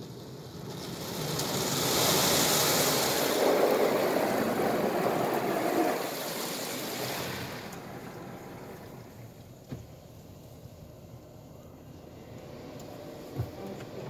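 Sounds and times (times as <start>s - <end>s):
water jets spraying car: 0.0s - 14.0s.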